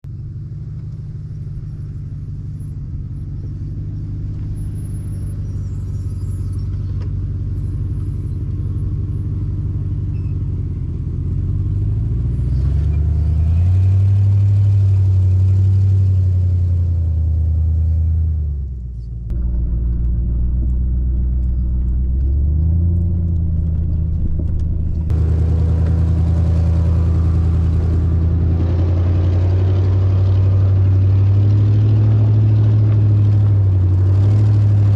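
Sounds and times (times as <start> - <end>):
car engine and leaky exhaust: 0.0 - 34.9.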